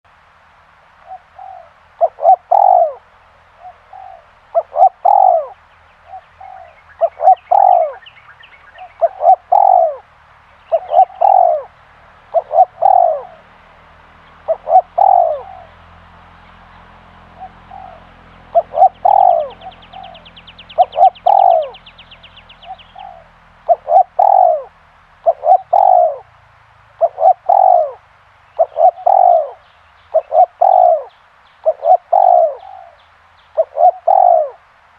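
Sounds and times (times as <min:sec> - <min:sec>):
dove cooing: 0:01.0 - 0:34.8.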